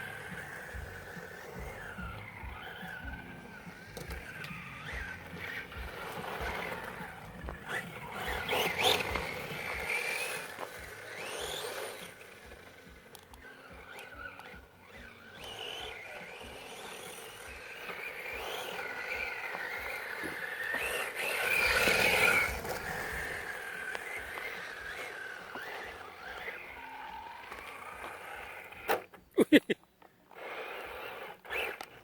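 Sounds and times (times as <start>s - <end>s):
electric motor whining: 0.0s - 29.2s, 30.3s - 32.0s.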